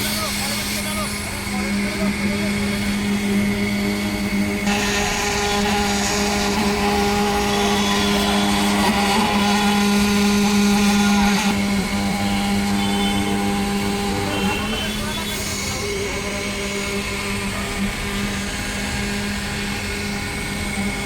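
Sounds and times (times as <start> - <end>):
machinery motor hum: 0.0 - 21.0.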